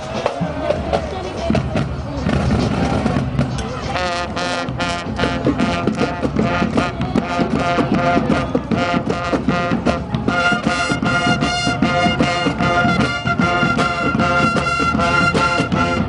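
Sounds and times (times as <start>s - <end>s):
brass band playing: 2.4s - 16.0s.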